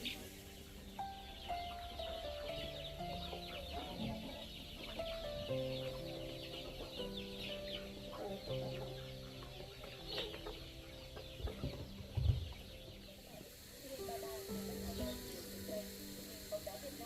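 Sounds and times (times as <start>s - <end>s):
background music of held notes: 0.0s - 17.0s
chickens clucking: 0.0s - 17.0s.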